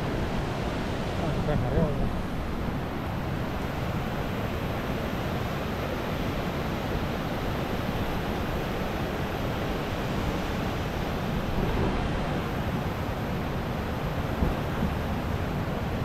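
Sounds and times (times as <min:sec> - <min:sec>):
water rushing through dam: 0:00.0 - 0:16.0.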